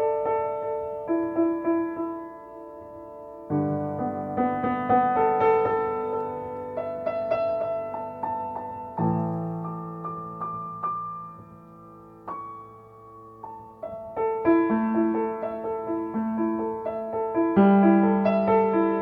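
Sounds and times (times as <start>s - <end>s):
slow gentle solo piano: 0.0s - 19.0s.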